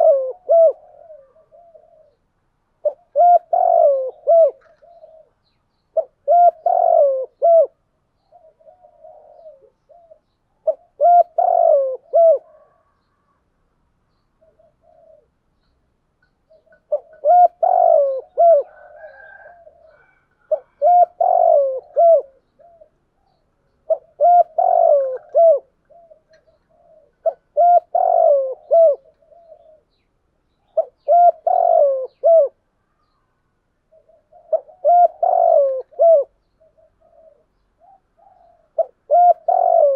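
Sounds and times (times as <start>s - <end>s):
doves cooing: 0.0s - 13.4s, 14.4s - 15.5s, 16.5s - 30.0s, 30.6s - 33.1s, 33.9s - 39.9s.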